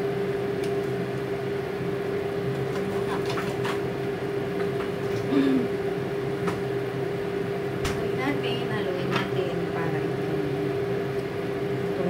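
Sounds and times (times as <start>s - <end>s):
kitchen appliance humming: 0.0s - 12.0s.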